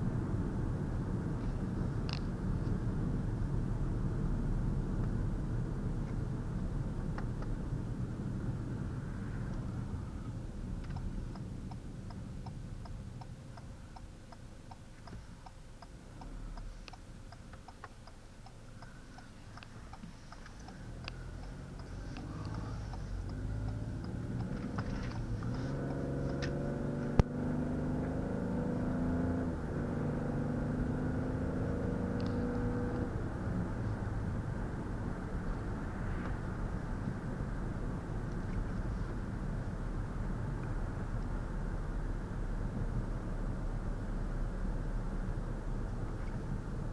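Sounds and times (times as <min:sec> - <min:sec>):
car engine accelerating: 0:00.0 - 0:46.9
road and tyre noise: 0:00.0 - 0:46.9.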